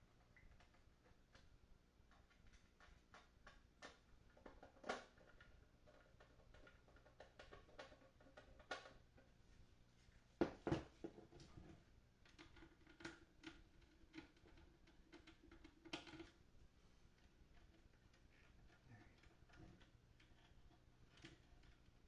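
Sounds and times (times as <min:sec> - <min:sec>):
small clicks and knocks of parts: 0:00.2 - 0:09.3, 0:12.2 - 0:16.5, 0:17.1 - 0:22.0.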